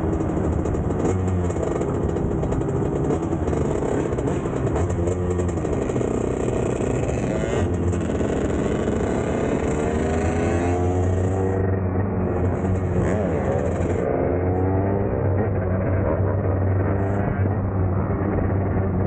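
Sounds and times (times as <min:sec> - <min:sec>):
dirt bike engine revving: 0:00.0 - 0:18.9
other motorbikes running: 0:00.0 - 0:19.0.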